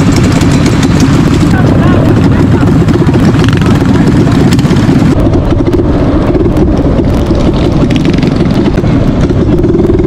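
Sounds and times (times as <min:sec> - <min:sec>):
minibike engine running: 0:00.0 - 0:10.0.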